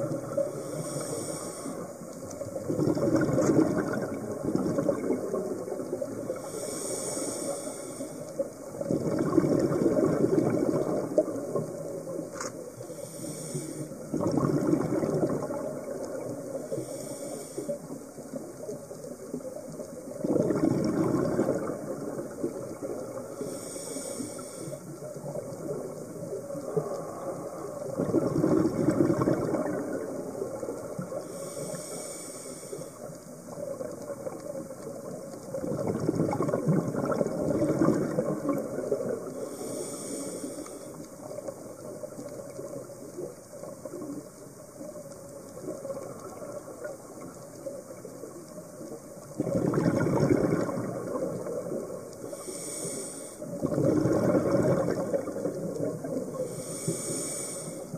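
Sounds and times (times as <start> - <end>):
regulator hiss on inhale: 0.0 - 2.6, 5.9 - 8.9, 11.0 - 14.2, 15.2 - 20.2, 21.5 - 35.6, 37.6 - 49.4, 50.6 - 57.9
bubbling exhaled air underwater: 0.0 - 57.9.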